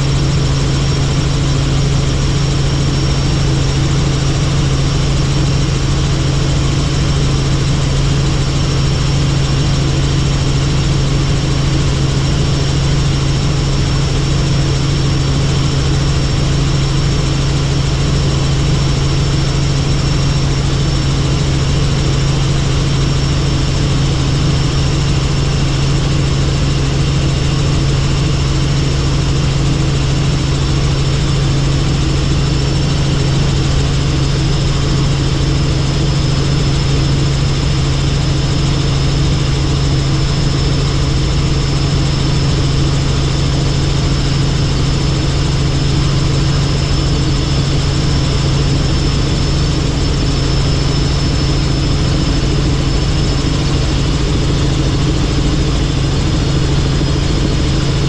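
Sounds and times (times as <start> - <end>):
helicopter droning: 0.0 - 58.0.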